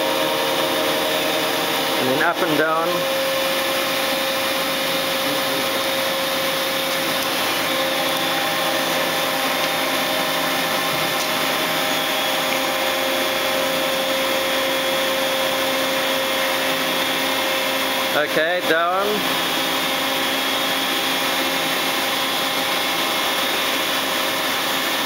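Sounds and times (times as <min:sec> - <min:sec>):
boring mill mechanical hum: 0:00.0 - 0:25.0
constant machine whine: 0:00.0 - 0:25.0.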